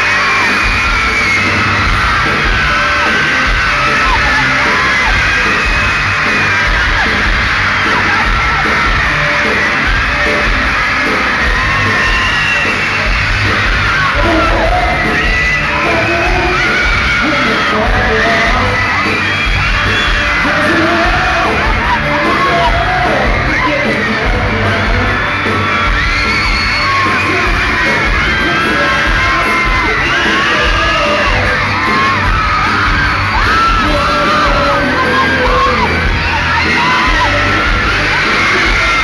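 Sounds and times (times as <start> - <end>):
crowd screaming: 0.0 - 39.0
pop-rock band playing live: 0.0 - 39.0.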